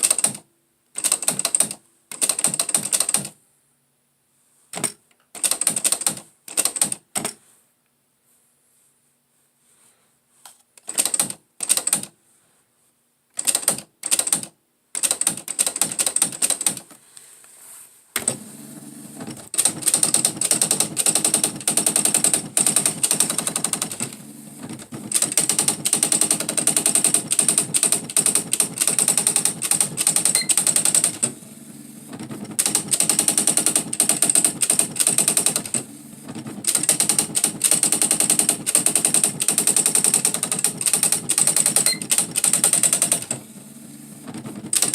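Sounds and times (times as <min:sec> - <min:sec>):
electronic typewriter printing: 0:00.0 - 0:00.4, 0:01.0 - 0:03.4, 0:04.8 - 0:07.4, 0:10.8 - 0:12.1, 0:13.4 - 0:16.9, 0:18.2 - 0:44.9.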